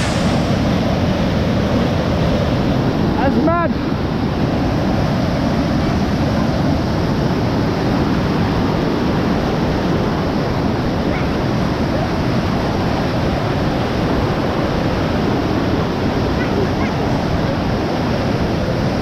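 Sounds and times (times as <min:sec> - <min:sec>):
water rushing through a sluice: 0:00.0 - 0:19.0.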